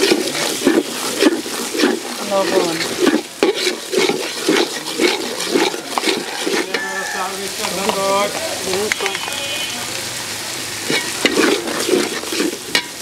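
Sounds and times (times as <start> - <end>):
metal spatula scraping pot: 0.0 - 9.4, 10.8 - 13.0
paste sizzling in oil: 0.0 - 13.0.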